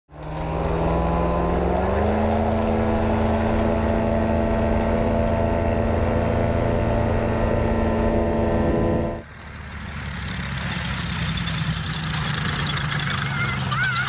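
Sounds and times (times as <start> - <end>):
aircraft two-stroke engine running: 0.1 - 14.0.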